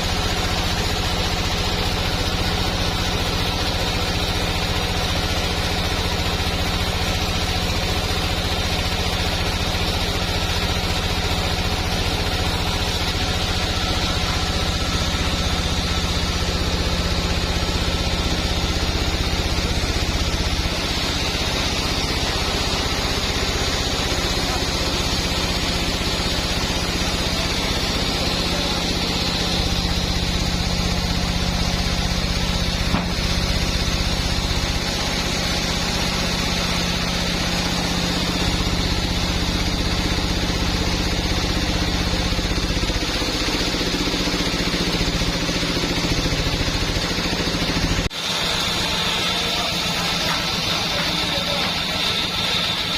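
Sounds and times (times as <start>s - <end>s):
sawmill machinery drone and whine: 0.0s - 52.9s.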